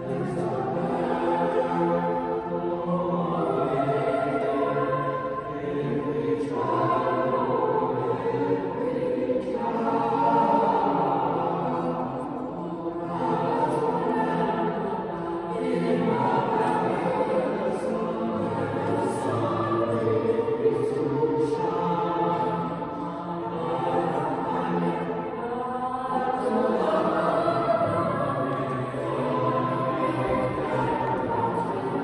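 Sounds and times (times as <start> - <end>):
boys' choir singing: 0.0 - 32.0.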